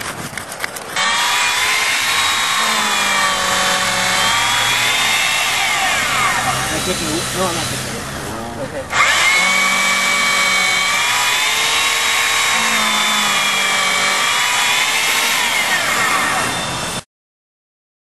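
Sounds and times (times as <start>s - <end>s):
chainsaw cutting ice: 0.0s - 17.1s.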